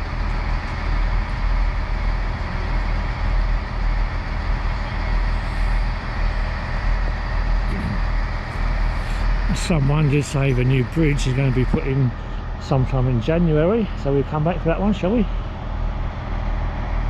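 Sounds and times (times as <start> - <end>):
engine running with low rumble: 0.0 - 17.0.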